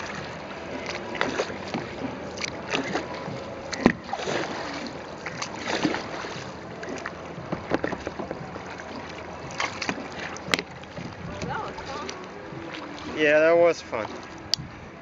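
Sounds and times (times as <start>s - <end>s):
paddle strokes splashing: 0.0s - 15.0s.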